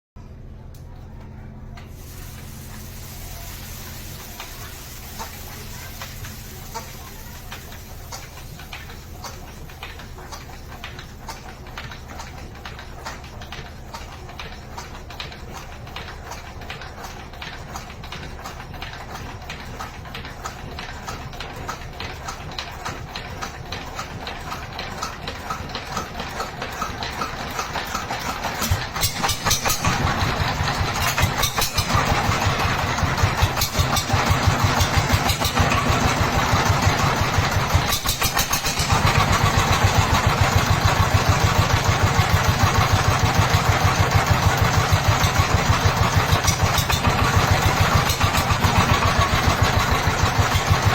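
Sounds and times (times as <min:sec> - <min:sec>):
single-cylinder diesel engine running: 0:00.3 - 0:50.9.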